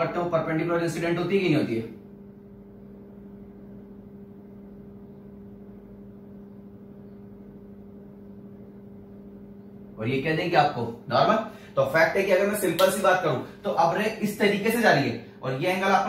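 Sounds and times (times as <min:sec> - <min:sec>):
steady low two-tone hum: 0:00.0 - 0:16.0.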